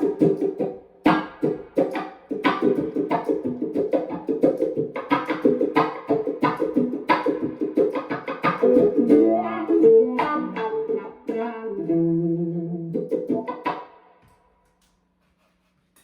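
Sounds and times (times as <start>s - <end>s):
electric guitar with wah pedal: 0.0s - 13.9s.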